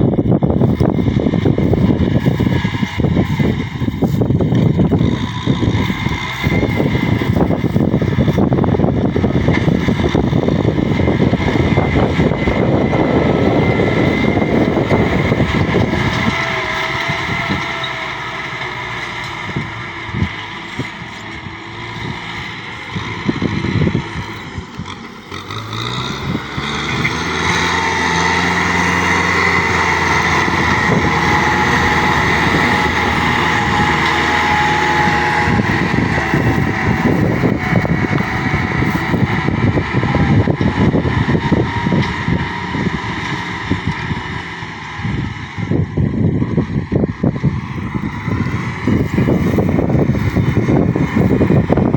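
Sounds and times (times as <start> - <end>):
heavy machinery engine running: 0.0 - 51.9.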